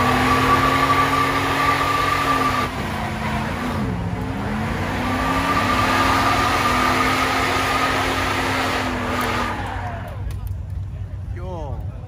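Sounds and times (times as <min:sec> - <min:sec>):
tires spinning and squealing: 0:00.0 - 0:10.4
truck engine at high revs: 0:00.0 - 0:10.4.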